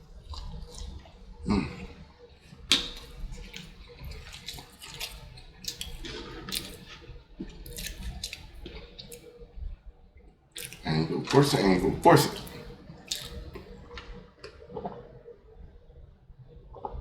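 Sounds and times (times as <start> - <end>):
person chewing food: 0.0 - 15.1.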